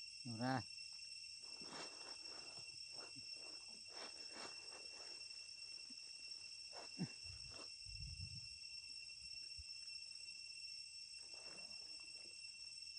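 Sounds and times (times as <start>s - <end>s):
insect chorus drone: 0.0s - 12.9s.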